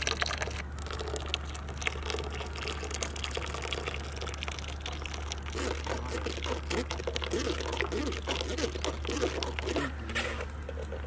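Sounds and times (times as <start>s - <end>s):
juice pouring and splashing: 0.0s - 10.0s
steady low hum: 0.0s - 11.0s.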